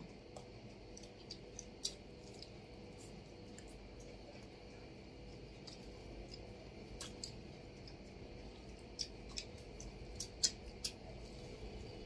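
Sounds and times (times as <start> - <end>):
chewing clicks and smacks: 0.0 - 11.3
fingers in food: 0.0 - 11.9
low room hum: 0.0 - 12.0.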